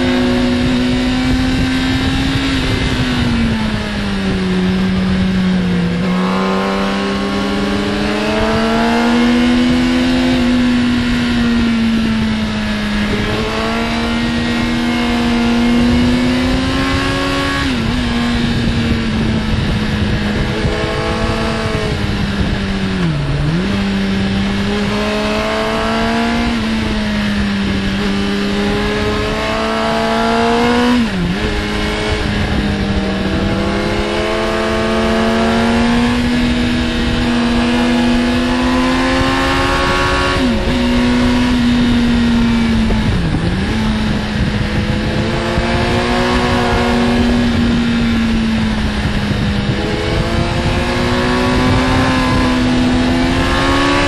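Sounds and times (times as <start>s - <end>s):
motorcycle engine accelerating: 0.0s - 54.0s
wind rushing: 0.0s - 54.0s.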